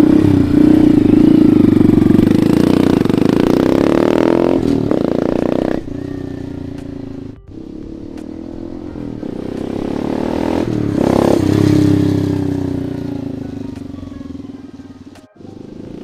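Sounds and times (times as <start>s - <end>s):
motorcycle engine riding past: 0.0s - 16.0s.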